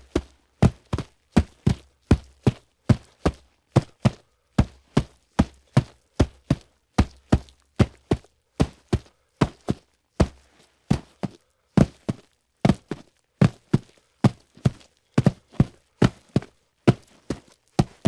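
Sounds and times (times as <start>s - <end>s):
hooves clip-clopping on hard ground: 0.0s - 18.0s.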